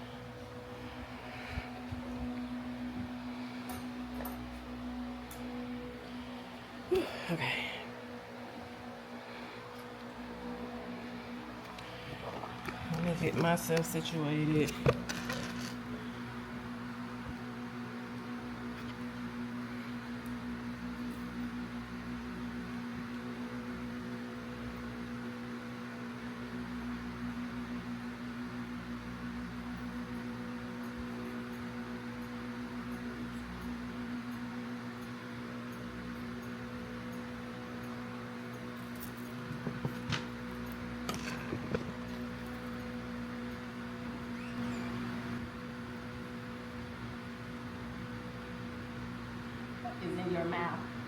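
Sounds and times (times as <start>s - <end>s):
machine hum with hiss: 0.0s - 51.0s.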